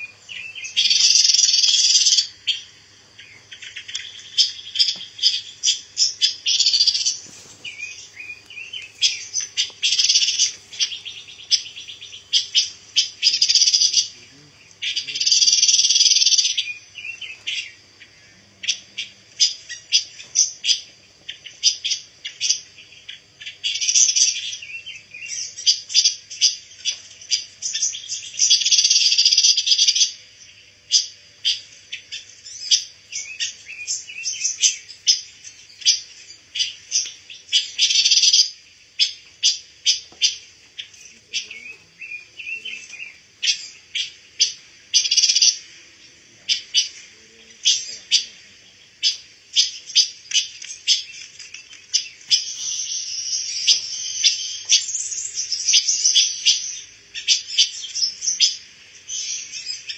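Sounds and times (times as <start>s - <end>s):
songbird chirping and chattering: 0.0s - 59.9s.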